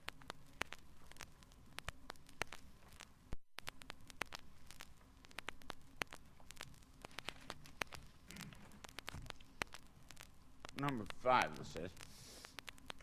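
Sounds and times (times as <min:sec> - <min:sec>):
faint hiss: 0:00.0 - 0:13.0
vinyl clicks and pops: 0:00.0 - 0:13.0.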